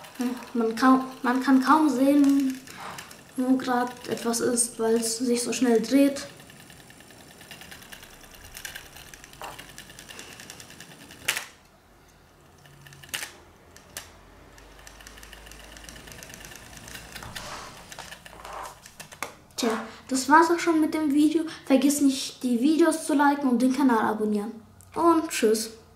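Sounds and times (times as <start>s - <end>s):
electric motor spinning fan: 0.0s - 20.9s.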